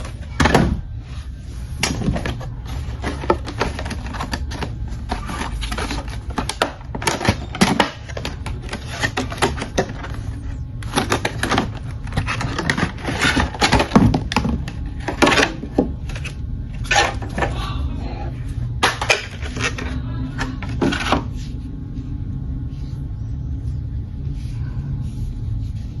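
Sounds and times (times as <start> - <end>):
cardboard and plastic packaging rustling: 0.0 - 17.6, 18.5 - 26.0
steady low hum: 0.0 - 26.0.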